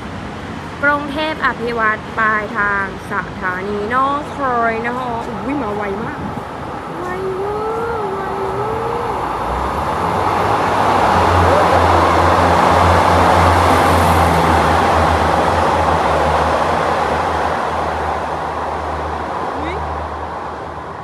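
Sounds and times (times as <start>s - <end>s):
rushing wheel-on-rail noise: 0.0s - 21.0s
train engine drone: 0.0s - 21.0s.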